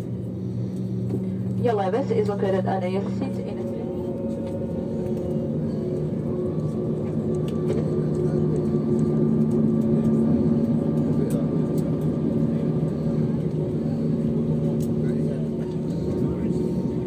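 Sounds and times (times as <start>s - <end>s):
jet engines humming at taxi: 0.0s - 17.0s.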